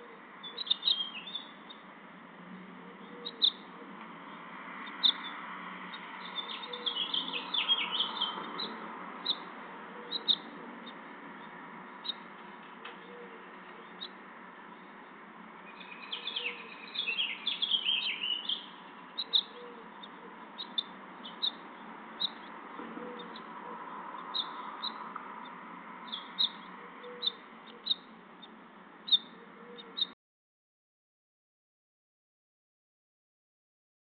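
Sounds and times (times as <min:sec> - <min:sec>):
small birds chirping: 0:00.0 - 0:30.2.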